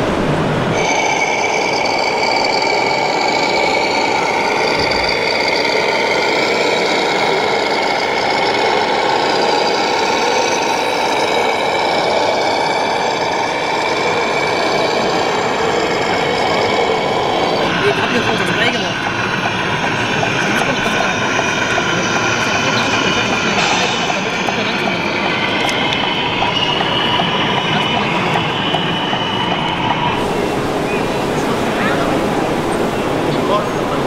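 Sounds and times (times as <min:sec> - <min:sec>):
model truck engine running: 0:00.8 - 0:28.6.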